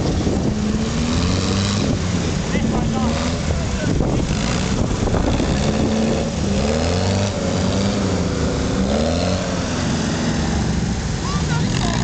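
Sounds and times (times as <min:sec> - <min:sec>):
buggy engines running at low speed: 0:00.0 - 0:12.0.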